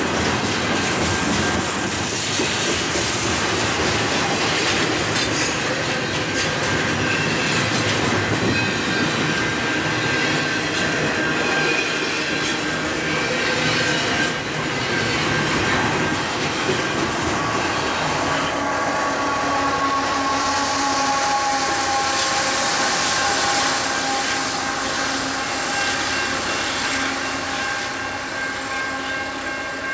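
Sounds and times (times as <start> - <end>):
diesel locomotive passing: 0.0 - 29.9
freight train wheels squealing: 0.0 - 29.9.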